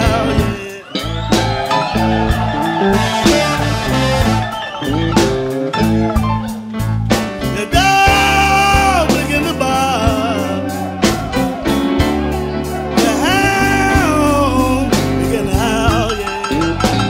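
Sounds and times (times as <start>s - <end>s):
bass: 0.0s - 17.0s
electric guitar lead: 0.0s - 17.0s
steady drum beat: 0.0s - 17.0s.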